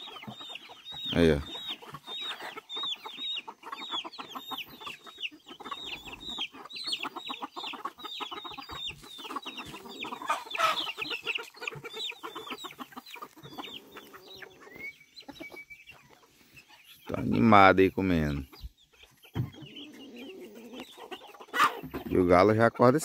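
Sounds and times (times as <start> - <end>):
chickens chirping: 0.0 - 23.0
chickens clucking: 0.0 - 23.0.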